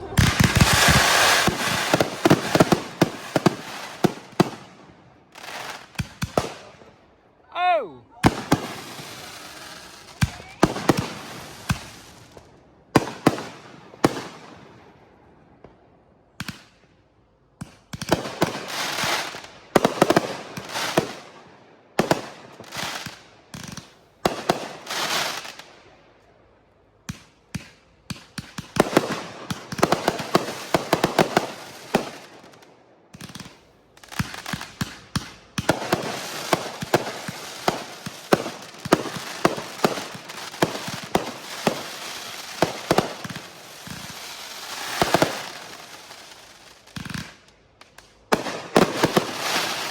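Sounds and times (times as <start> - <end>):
fireworks banging and crackling: 0.0 - 7.0, 8.2 - 15.0, 17.6 - 21.4, 22.0 - 25.7, 27.0 - 49.9.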